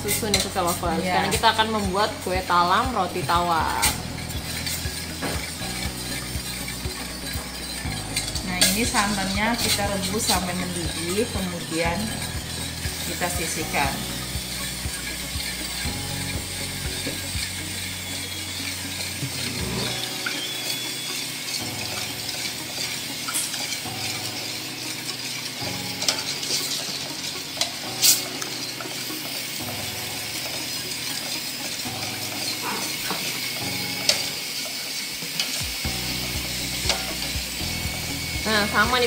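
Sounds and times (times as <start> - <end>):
gas burner hissing: 0.0 - 39.0.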